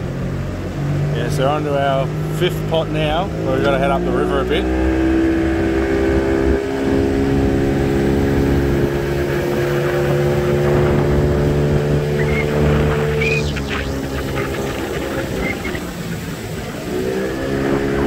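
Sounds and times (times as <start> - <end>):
outboard motor running: 0.0 - 18.0
water noise: 0.0 - 18.0
rushing wind: 3.0 - 18.0.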